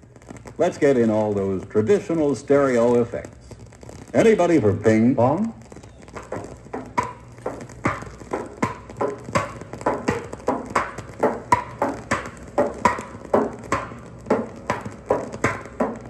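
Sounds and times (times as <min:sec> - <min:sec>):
ping-pong ball hitting paddles: 0:00.4 - 0:16.0.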